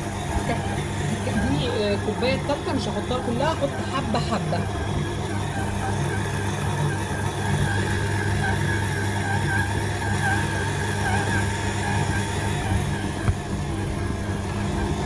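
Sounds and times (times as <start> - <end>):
dough tool churning dough: 0.0 - 15.0
stand mixer motor running: 0.0 - 15.0.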